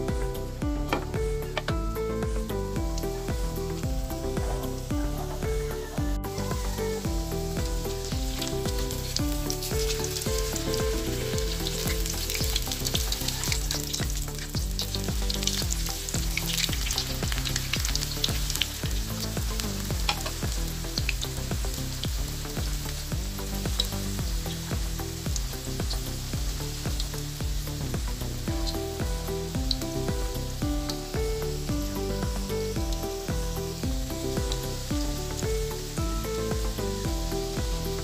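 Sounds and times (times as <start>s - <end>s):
background music: 0.0s - 38.0s
deep-frying sizzle in oil: 0.0s - 38.0s.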